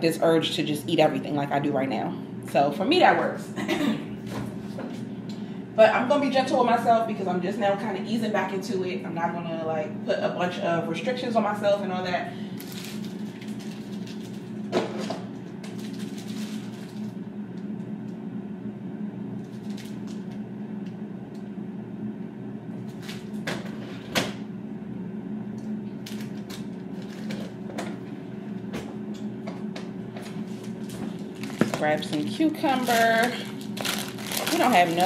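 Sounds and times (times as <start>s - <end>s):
refrigerator hum: 0.0s - 35.0s.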